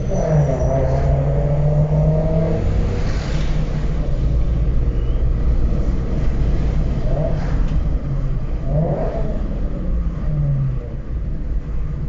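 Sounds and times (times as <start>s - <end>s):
car exhaust deep rumble: 0.0s - 12.0s.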